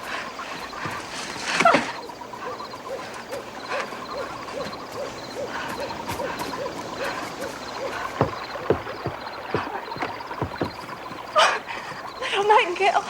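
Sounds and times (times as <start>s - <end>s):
soft low hooting: 0.0s - 12.3s
insects chirping: 0.0s - 13.0s.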